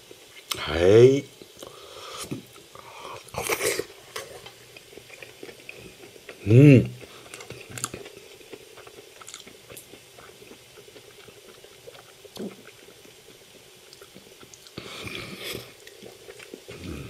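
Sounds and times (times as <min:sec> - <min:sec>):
person chewing food: 0:01.4 - 0:17.0.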